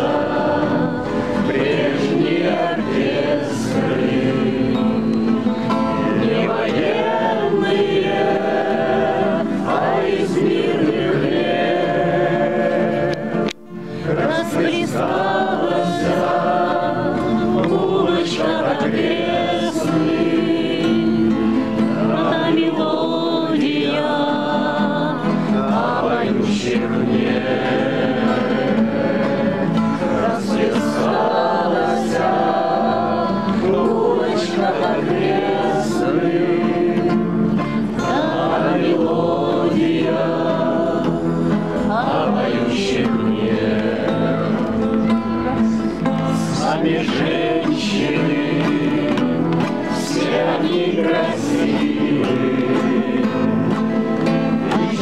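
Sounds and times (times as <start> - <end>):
crowd singing together: 0.0 - 55.0
strummed acoustic guitars: 0.0 - 55.0.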